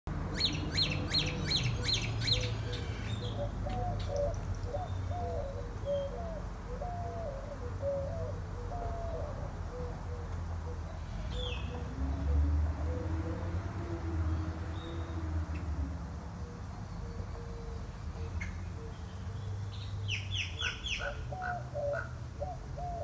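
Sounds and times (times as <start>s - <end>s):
birds chirping and warbling: 0.2s - 23.0s.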